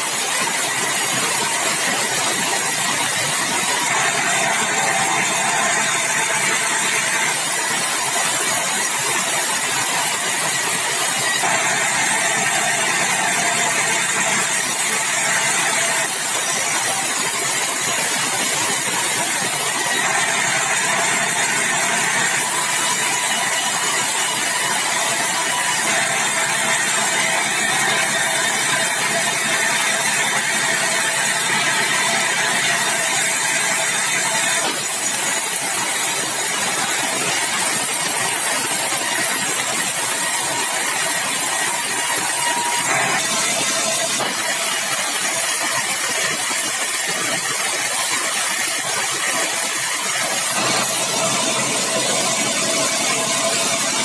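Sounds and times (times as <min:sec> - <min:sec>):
band saw ripping hardwood: 0:00.0 - 0:54.0
mill drive running: 0:00.0 - 0:54.0.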